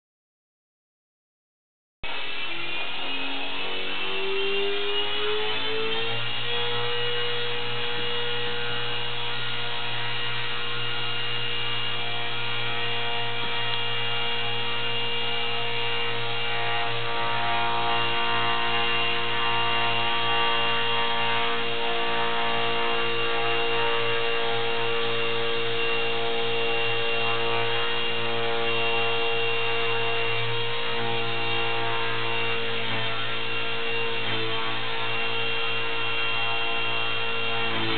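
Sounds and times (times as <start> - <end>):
toy helicopter motor whine: 2.1 - 37.9.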